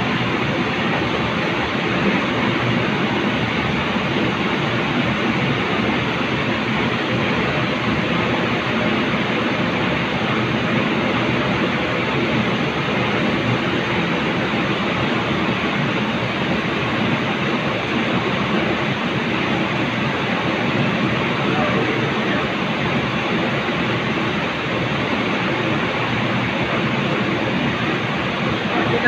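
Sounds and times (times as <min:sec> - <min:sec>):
factory machinery rumble and hiss: 0:00.0 - 0:29.0.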